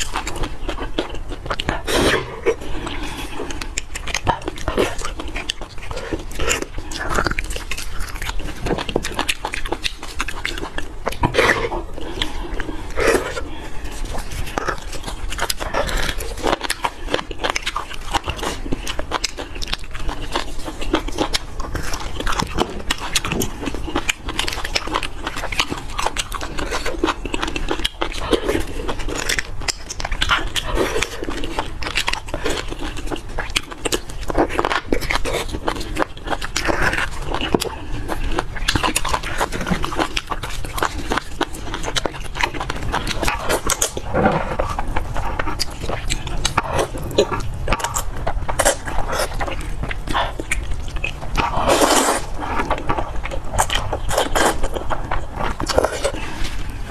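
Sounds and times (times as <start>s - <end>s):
close chewing and mouth smacks: 0.0s - 56.9s.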